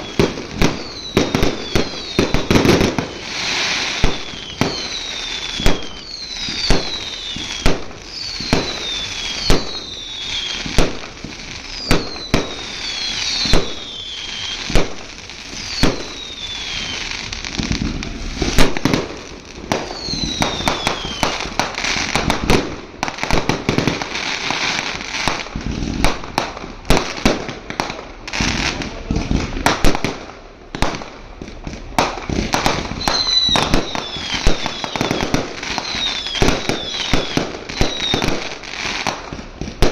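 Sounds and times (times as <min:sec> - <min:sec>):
falling firework whistles: 0:00.0 - 0:30.1, 0:30.8 - 0:39.9
fireworks bangs: 0:00.0 - 0:39.9.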